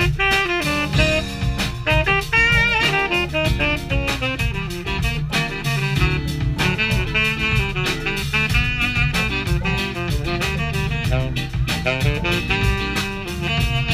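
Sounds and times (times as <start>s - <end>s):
double bass: 0.0s - 13.9s
drum kit groove: 0.0s - 13.9s
electric keyboard: 0.0s - 13.9s
saxophone melody: 0.0s - 13.9s.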